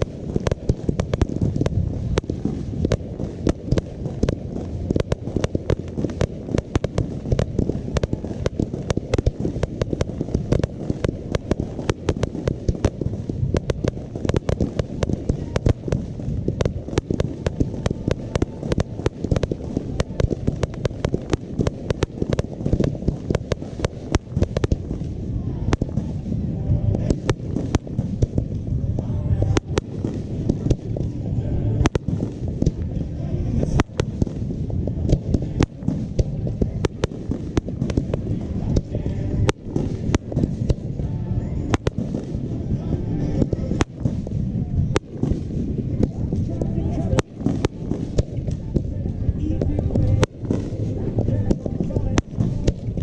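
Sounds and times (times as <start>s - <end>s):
fireworks bangs: 0.0s - 53.0s
low rumble: 0.0s - 53.0s.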